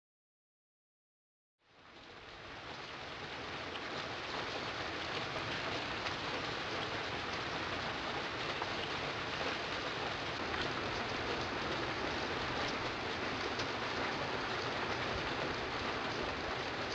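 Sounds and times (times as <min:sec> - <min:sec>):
steady rain patter: 0:01.6 - 0:16.9.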